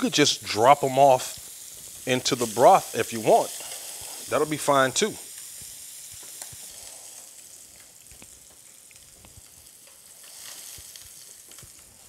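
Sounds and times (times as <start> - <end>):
scallops sizzling in oil: 0.0 - 12.0.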